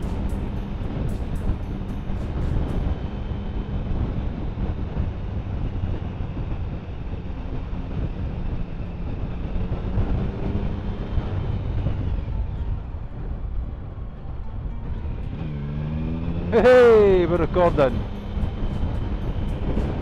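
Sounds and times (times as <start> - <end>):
wind noise on microphone: 0.0 - 16.4, 17.1 - 20.0
motorcycle engine hum: 0.0 - 20.0
road rush: 0.0 - 20.0.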